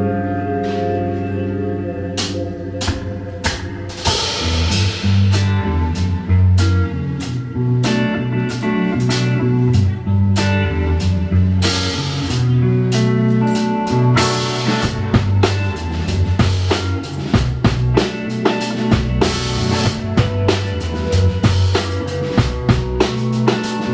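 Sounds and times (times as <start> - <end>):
bass line: 0.0 - 23.9
guitar: 0.0 - 23.9
drums: 0.2 - 23.9.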